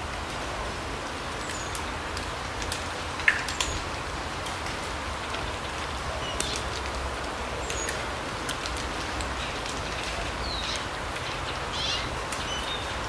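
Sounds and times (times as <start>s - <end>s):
steady forest hiss: 0.0s - 13.0s
water drips and light ticks: 0.0s - 13.0s.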